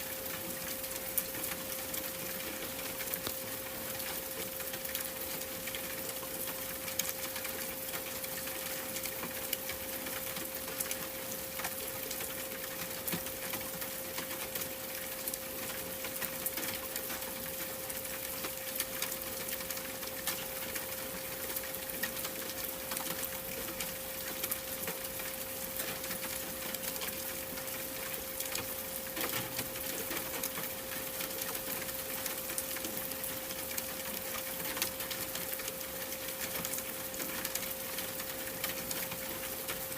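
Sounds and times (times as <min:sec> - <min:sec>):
hiss with crackles and ticks: 0:00.0 - 0:39.9.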